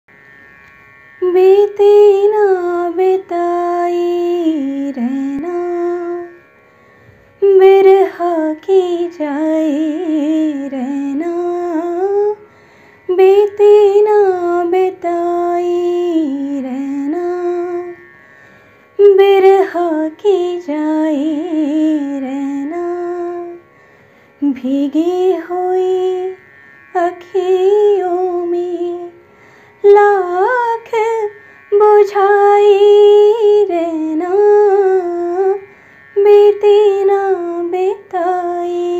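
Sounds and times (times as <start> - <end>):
woman singing unaccompanied: 1.2 - 6.4, 7.4 - 12.4, 13.1 - 18.1, 19.0 - 23.6, 24.4 - 29.2, 29.8 - 38.9.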